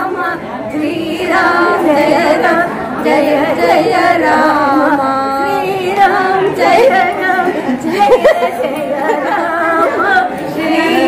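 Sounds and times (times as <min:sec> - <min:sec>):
women singing devotional song: 0:00.0 - 0:11.0.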